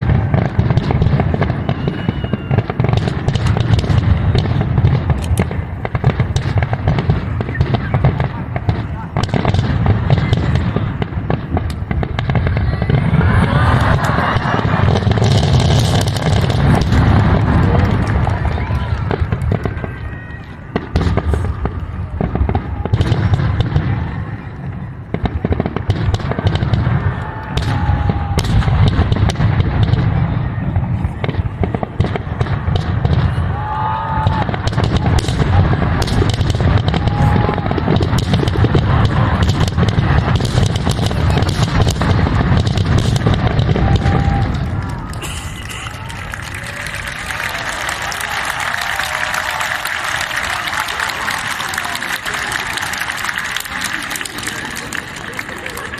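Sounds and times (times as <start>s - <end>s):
firework bursts and crackles: 0.0s - 55.9s.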